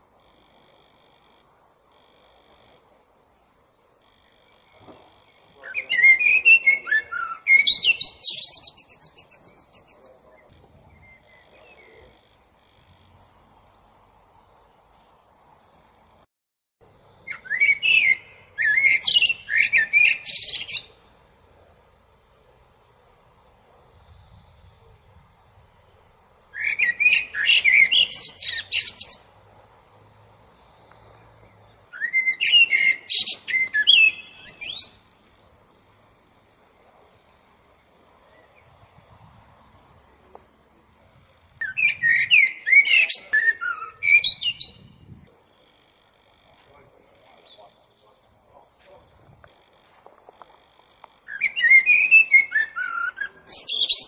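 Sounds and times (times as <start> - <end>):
blackbird singing: 2.1 - 14.0, 16.8 - 29.5, 30.4 - 39.2, 39.8 - 49.7, 50.3 - 54.0.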